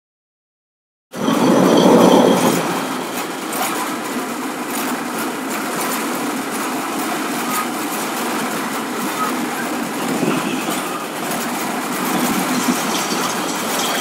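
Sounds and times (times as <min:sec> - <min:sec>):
mechanical running noise: 0:01.2 - 0:14.0.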